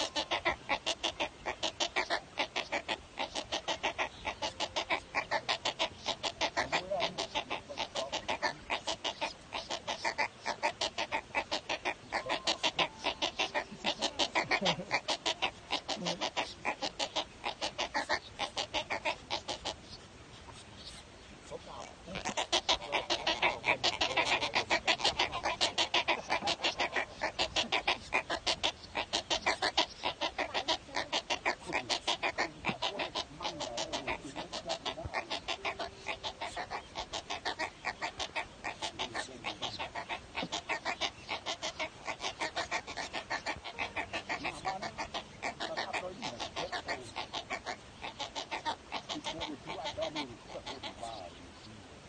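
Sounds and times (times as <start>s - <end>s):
nestlings clucking: 0.0s - 21.0s, 21.6s - 51.3s.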